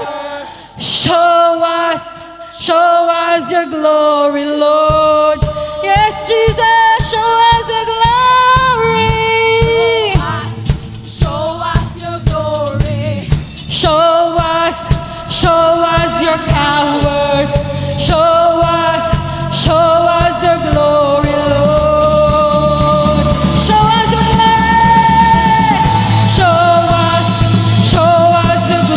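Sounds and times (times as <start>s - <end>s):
steady drum beat: 0.0s - 3.6s, 4.4s - 28.9s
singing long held notes: 0.0s - 28.9s
worship band playing: 0.0s - 28.9s.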